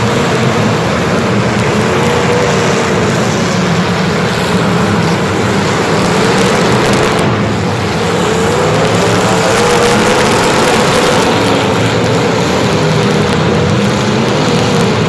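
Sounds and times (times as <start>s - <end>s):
loud noisy rush: 0.0s - 15.0s.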